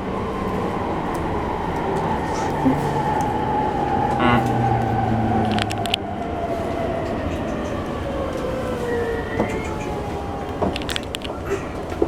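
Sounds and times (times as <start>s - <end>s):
train motor whine: 0.0s - 11.2s
train running rumble: 0.0s - 12.0s.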